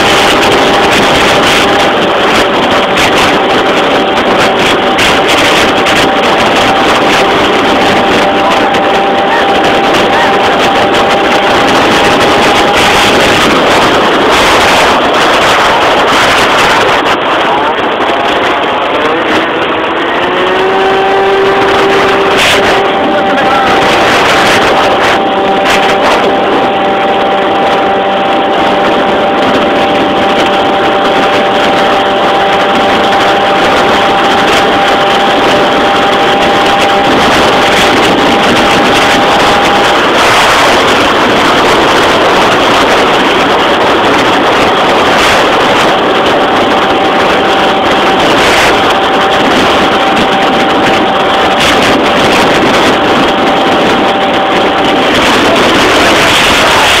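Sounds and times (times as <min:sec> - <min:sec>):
loud two-stroke scooter engine revving: 0:00.0 - 0:57.0.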